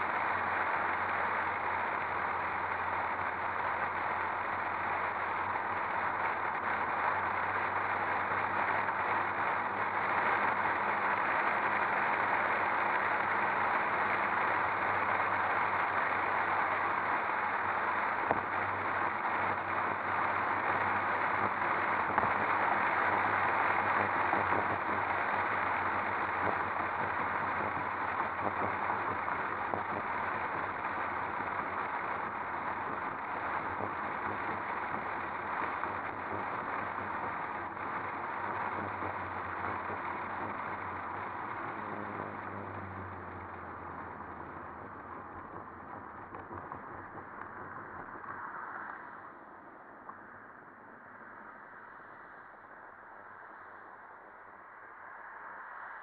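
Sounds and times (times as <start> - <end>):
faint low engine hum: 0.0 - 50.2
wind and road noise: 0.0 - 56.0.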